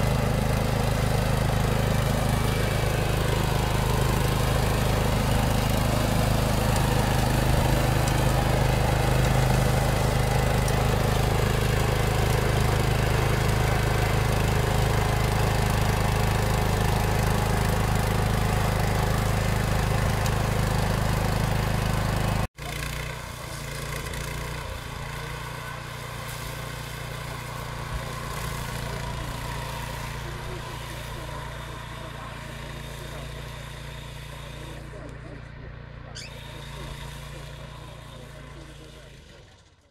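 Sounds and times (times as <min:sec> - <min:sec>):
flail mower engine running: 0:00.0 - 0:39.9
two-wheel tractor engine mowing: 0:00.0 - 0:39.9.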